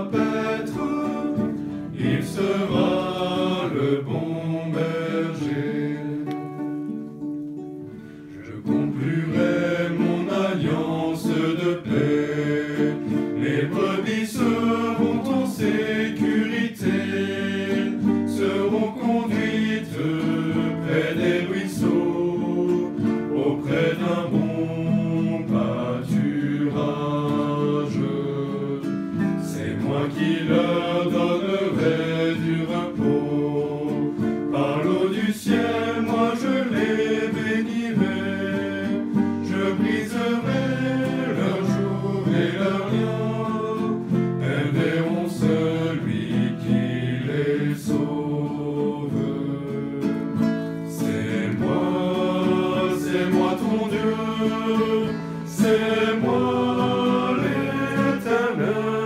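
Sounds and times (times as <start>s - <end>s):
men singing worship song: 0.0s - 6.2s, 8.4s - 59.0s
strummed classical guitar: 0.0s - 59.0s.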